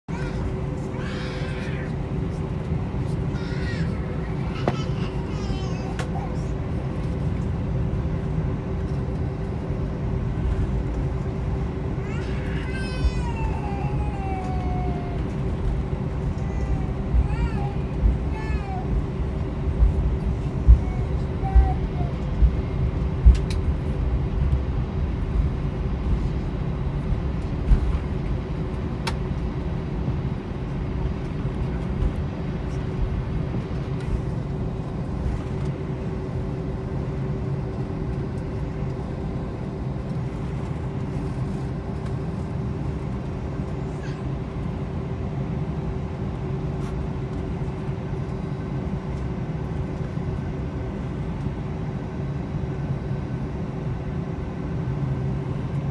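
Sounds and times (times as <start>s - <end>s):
jet engines low rumble: 0.0s - 55.9s
steady cabin hum: 0.1s - 55.9s.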